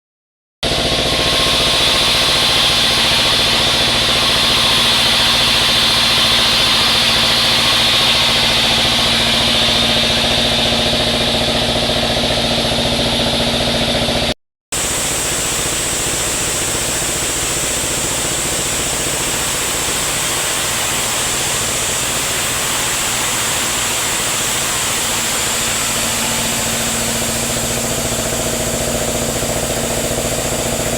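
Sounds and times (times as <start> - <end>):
sawmill machinery sawing wood: 0.6 - 30.9.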